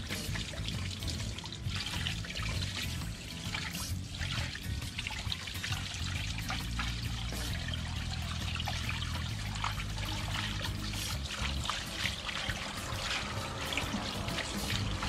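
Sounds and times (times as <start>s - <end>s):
background music: 0.0s - 15.0s
water splashing on metal wheel: 0.0s - 15.0s.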